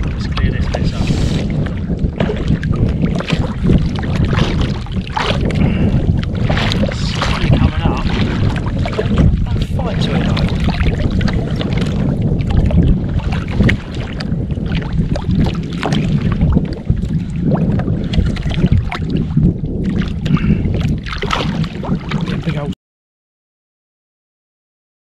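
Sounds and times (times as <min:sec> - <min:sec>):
water washing against kayak: 0:00.0 - 0:22.8
wind buffeting microphone: 0:00.0 - 0:22.8.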